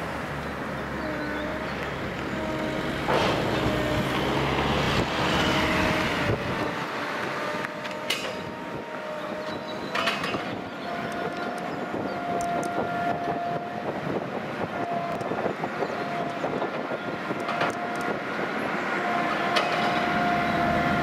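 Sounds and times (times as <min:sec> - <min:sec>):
crane electric drive whine: 0:00.9 - 0:21.0.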